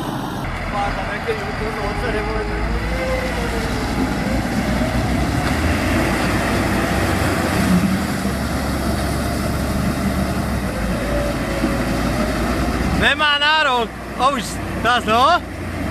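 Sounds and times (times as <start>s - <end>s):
tractor diesel engines under load: 0.0s - 15.9s.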